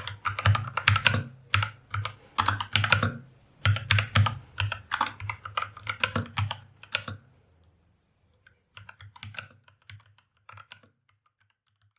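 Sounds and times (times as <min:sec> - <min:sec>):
mechanical keyboard typing: 0:00.0 - 0:07.2, 0:08.4 - 0:11.9.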